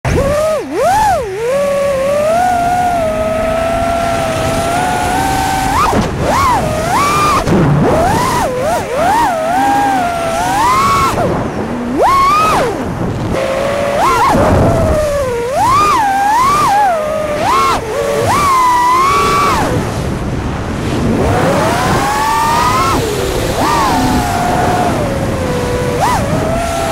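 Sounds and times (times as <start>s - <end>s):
drone motors and propellers whining: 0.0s - 26.9s.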